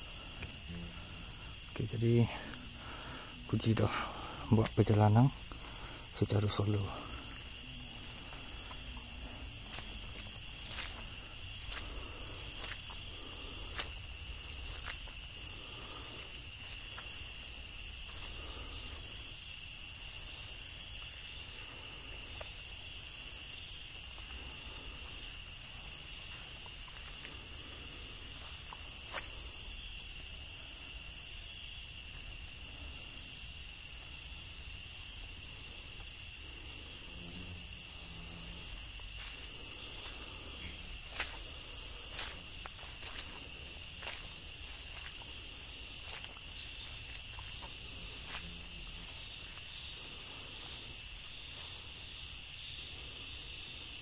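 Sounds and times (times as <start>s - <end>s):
footsteps through grass and leaves: 0.0s - 30.3s, 37.6s - 53.6s
chorus of night insects: 0.0s - 54.0s.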